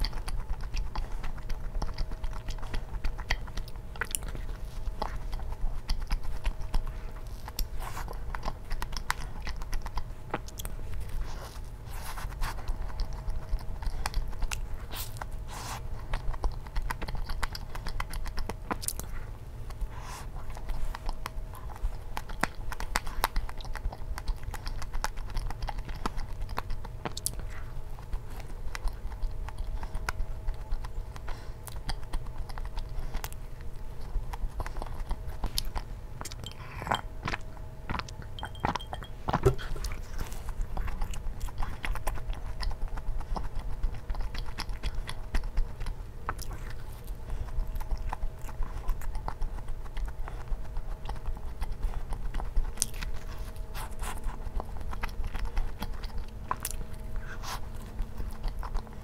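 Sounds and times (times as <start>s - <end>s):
faint steady hum: 0.0s - 59.0s
person chewing donuts: 0.0s - 59.0s.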